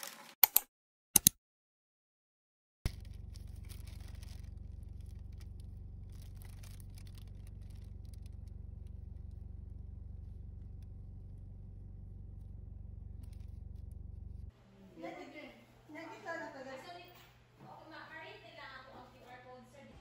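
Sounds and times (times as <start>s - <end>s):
low mechanical hum: 2.9s - 20.0s.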